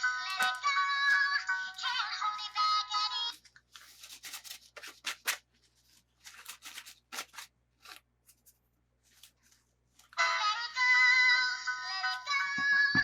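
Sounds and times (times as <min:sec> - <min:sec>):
toy packaging rustling and scraping: 0:00.0 - 0:11.1.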